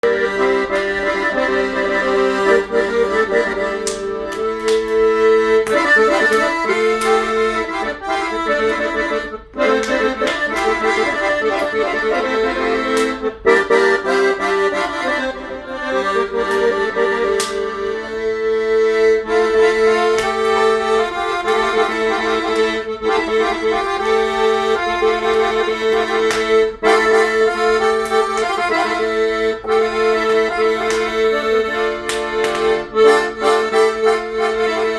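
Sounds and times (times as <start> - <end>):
accordion playing a tune: 0.0 - 34.9.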